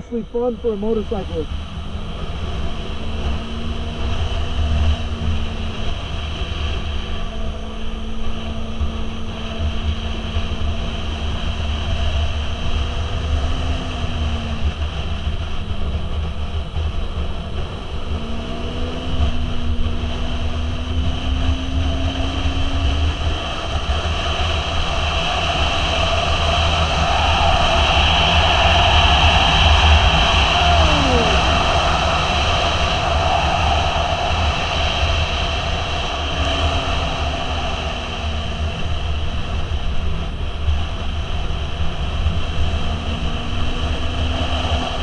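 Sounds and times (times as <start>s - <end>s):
motorcycle engine running: 0.0s - 45.0s
wind rumble: 0.0s - 45.0s.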